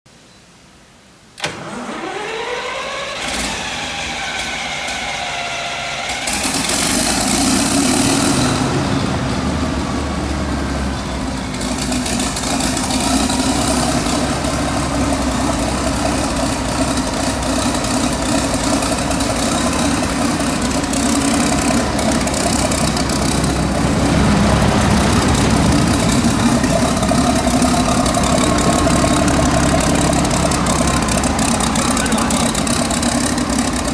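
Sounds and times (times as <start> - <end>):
engine cranking whine: 1.4 - 33.9
engine running steadily: 1.4 - 33.9.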